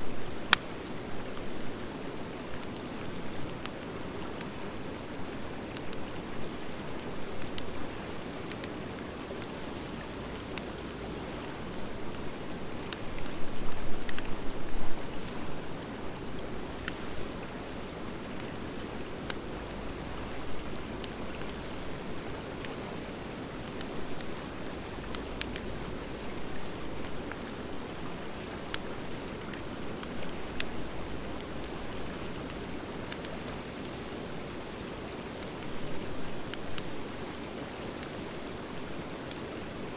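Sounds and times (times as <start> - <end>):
wood fire crackling and popping: 0.2 - 39.8.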